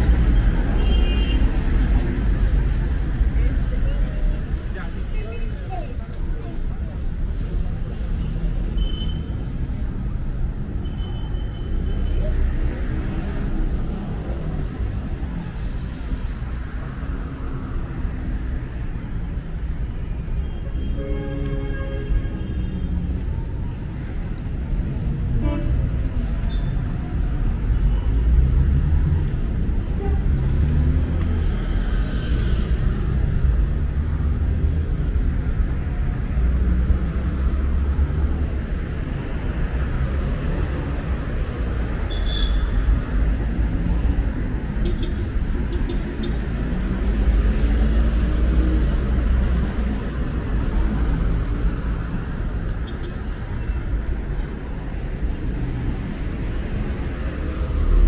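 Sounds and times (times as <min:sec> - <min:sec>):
traffic rumble on busy road: 0:00.0 - 0:58.0.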